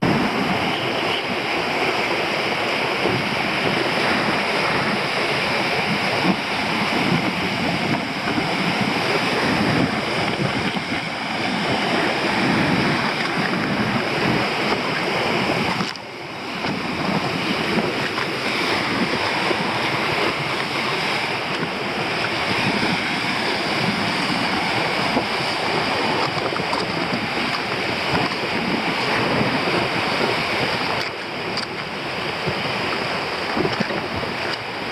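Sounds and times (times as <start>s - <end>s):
waves breaking on rocks: 0.0s - 34.9s
wind buffeting microphone: 0.0s - 34.9s.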